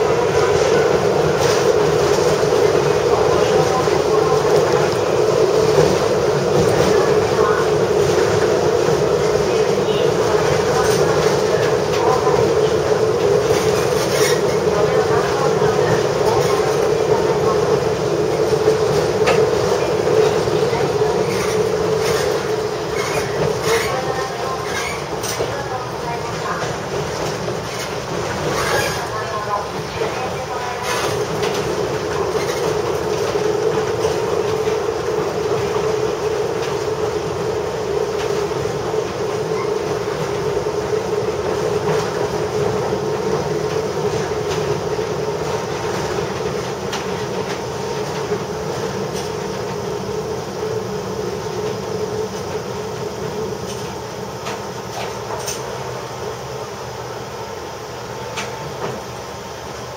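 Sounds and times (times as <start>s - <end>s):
diesel railcar running drone: 0.0s - 59.9s.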